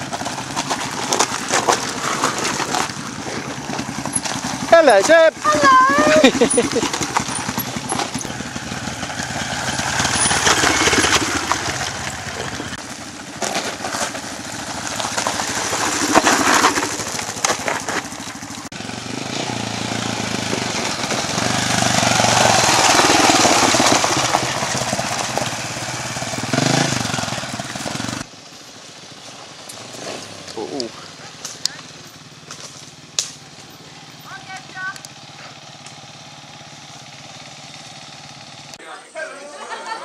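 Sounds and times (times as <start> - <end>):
dirt bikes revving past: 0.0 - 40.0.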